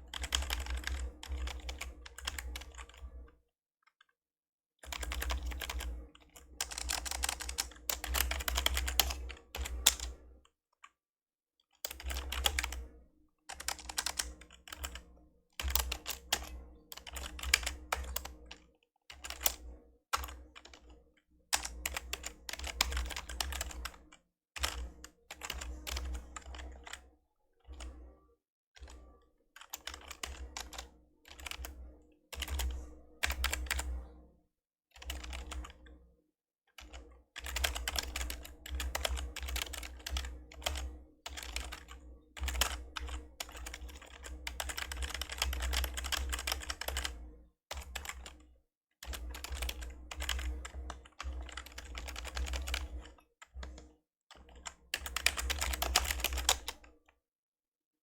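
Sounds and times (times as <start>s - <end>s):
fast typing on keyboard: 0.0s - 3.2s, 4.8s - 10.2s, 11.9s - 12.8s, 13.5s - 27.0s, 29.6s - 31.7s, 32.3s - 34.0s, 35.0s - 35.8s, 36.8s - 48.4s, 49.0s - 56.9s.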